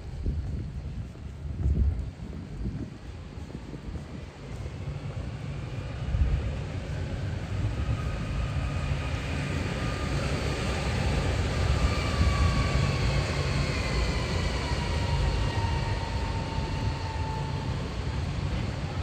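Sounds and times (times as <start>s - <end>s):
tram rumbling with high whine: 0.0s - 19.0s.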